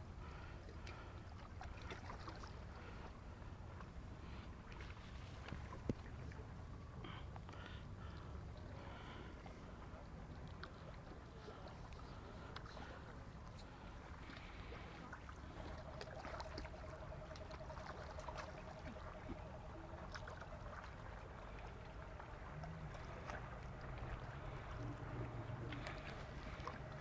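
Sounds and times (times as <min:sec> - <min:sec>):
wind and water rumble: 0:00.0 - 0:27.0.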